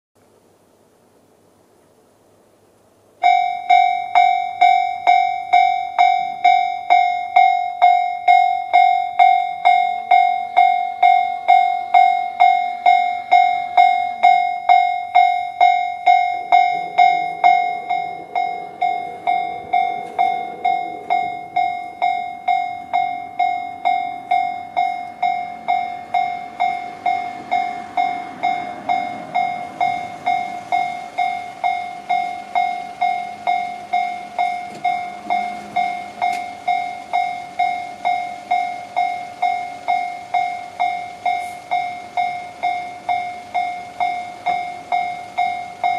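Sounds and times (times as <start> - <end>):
train rumbling: 0.3 - 45.9
level crossing alarm bell: 3.2 - 45.9.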